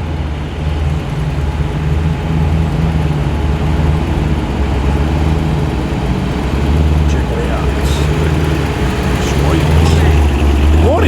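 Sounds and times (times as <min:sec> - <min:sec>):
car engine rumbling at low revs: 0:00.0 - 0:11.0.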